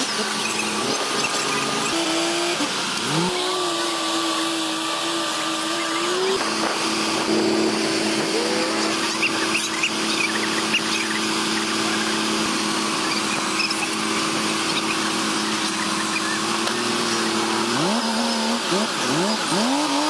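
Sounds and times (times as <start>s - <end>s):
bulldozer diesel engine: 0.0s - 20.0s.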